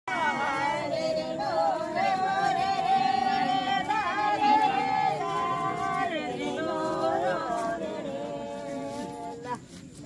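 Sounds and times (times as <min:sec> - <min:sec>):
people singing without instruments: 0:00.1 - 0:09.9.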